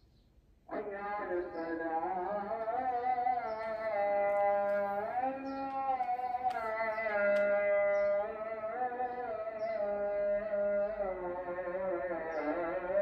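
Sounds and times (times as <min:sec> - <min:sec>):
man chanting call to prayer: 0:00.7 - 0:13.0.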